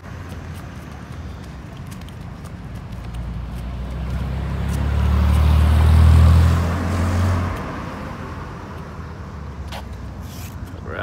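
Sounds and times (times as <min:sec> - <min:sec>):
vehicle passing by: 0:00.0 - 0:10.6.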